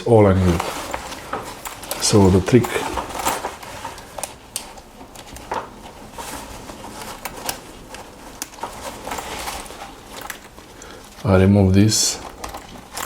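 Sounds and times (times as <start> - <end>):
fabric bag rustling: 0.1 - 13.0.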